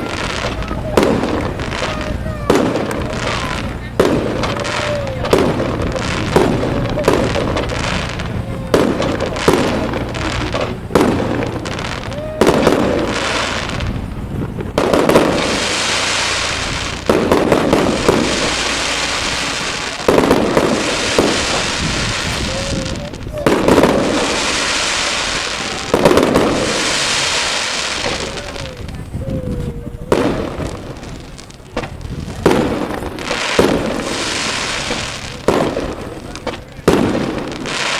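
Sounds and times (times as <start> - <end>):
firework shells bursting: 0.0 - 29.0, 30.2 - 37.9
firework crackling: 0.0 - 37.9.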